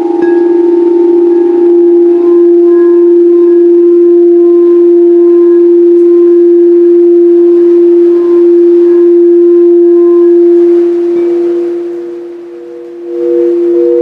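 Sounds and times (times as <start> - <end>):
higher-pitched tone: 0.0 - 14.0
singing bowl tone: 0.0 - 14.0.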